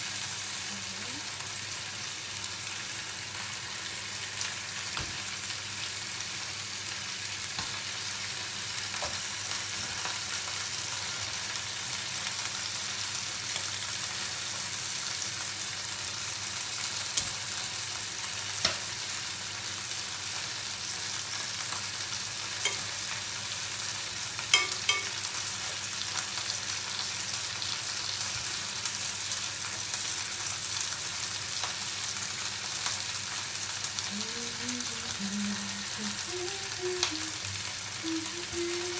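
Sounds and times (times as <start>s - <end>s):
chicken frying in a pan: 0.0s - 38.9s.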